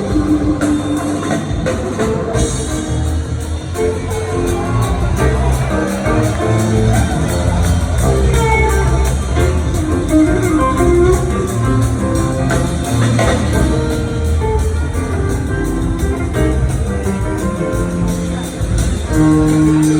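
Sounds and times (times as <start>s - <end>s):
bass guitar: 0.0s - 19.9s
cymbal-driven drum beat: 0.0s - 19.9s
lead guitar: 0.0s - 19.9s.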